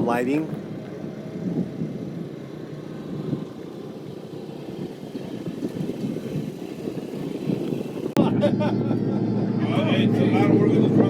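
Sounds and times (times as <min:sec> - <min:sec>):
vehicle engines humming: 0:00.0 - 0:11.0.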